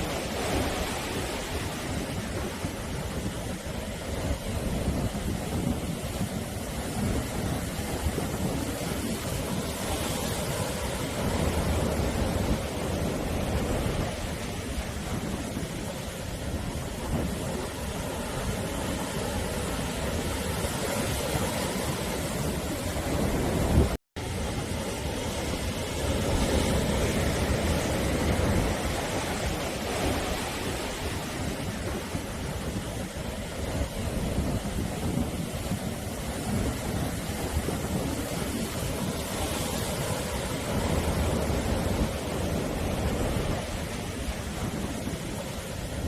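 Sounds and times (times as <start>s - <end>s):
surf washing on shore: 0.0s - 46.0s.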